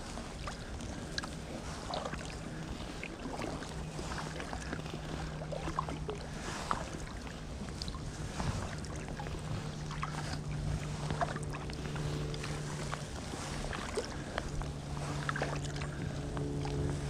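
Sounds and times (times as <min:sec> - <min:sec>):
paddle splashing in water: 0:00.0 - 0:17.0
steady low hum: 0:00.0 - 0:17.0
water dripping off paddle: 0:00.4 - 0:17.0.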